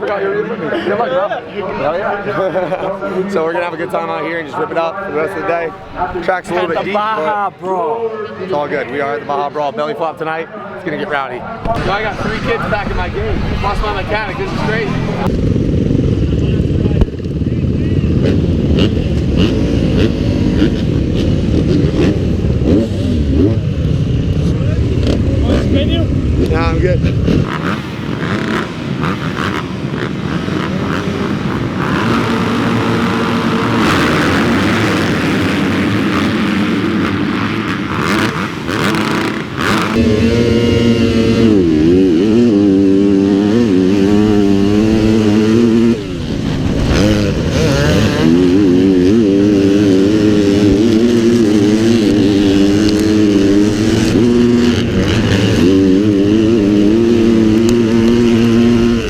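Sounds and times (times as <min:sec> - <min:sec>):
dirt bike engine revving: 0:11.7 - 0:59.0.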